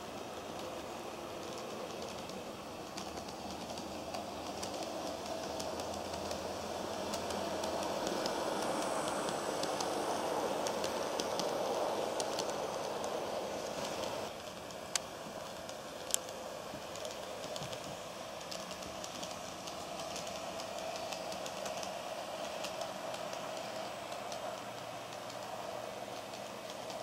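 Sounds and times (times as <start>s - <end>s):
model train motor hum: 0.0s - 27.0s
wheels clicking over rails: 0.0s - 27.0s.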